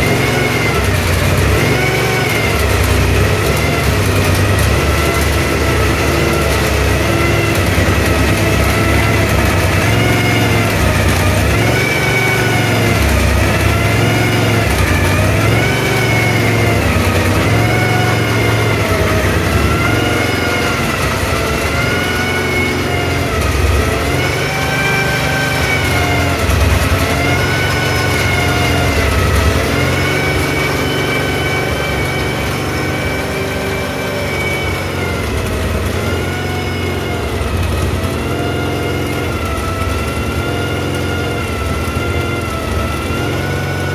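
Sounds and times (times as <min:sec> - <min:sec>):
race car engine revving: 0:00.0 - 0:43.9.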